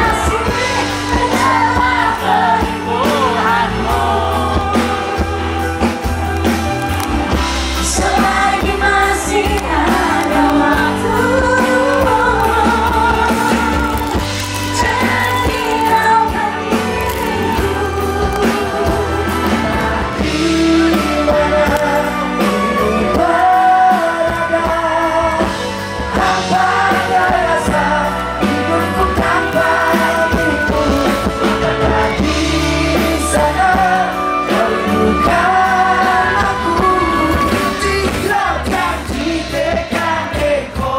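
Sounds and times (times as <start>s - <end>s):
band playing pop-rock song: 0.0s - 40.9s
drums: 0.0s - 40.9s
heavy bass line: 0.0s - 40.9s
person singing: 0.0s - 40.9s.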